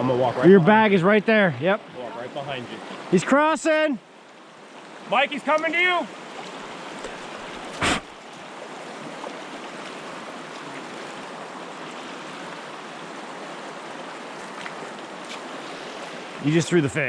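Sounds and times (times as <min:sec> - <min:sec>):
river water rushing: 0:01.6 - 0:17.0.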